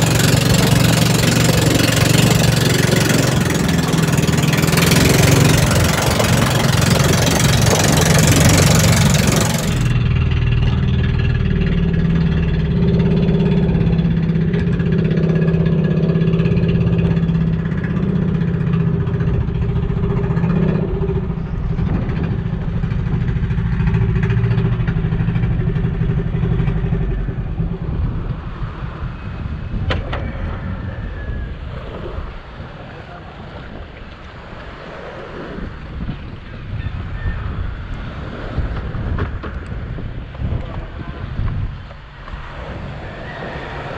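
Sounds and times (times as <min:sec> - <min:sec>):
boat engine running: 0:00.0 - 0:43.9
wind hiss: 0:00.0 - 0:43.9.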